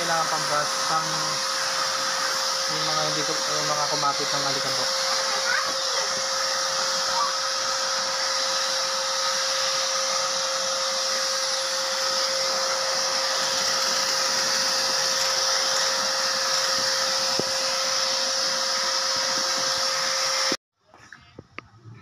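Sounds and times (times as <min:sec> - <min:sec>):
vacuum cleaner motor whine: 0:00.0 - 0:20.6.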